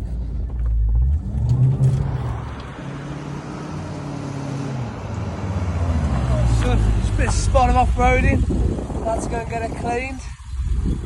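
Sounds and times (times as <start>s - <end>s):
car engine under throttle: 0.0s - 11.0s.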